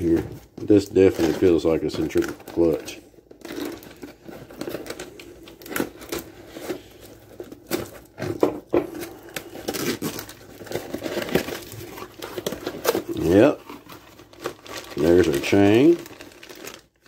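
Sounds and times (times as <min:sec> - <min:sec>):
plastic packaging crinkling: 0:00.0 - 0:17.0
cardboard tearing and scraping: 0:01.0 - 0:17.0.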